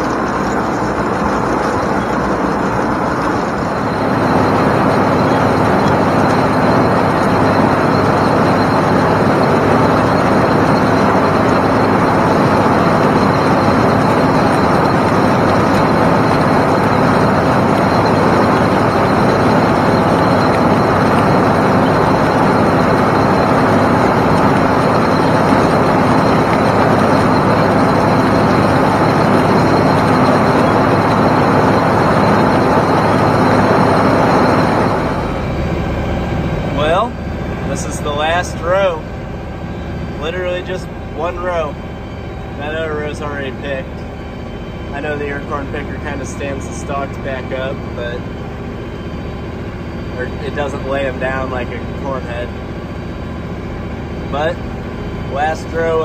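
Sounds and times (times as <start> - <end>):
tractor engine and picker drone: 0.0 - 56.0.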